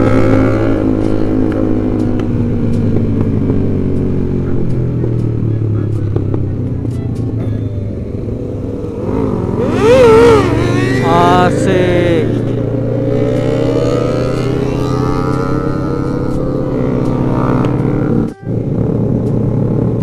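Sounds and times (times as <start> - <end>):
motorcycle engine revving: 0.0 - 20.0
motorcycle engines droning: 0.0 - 20.0.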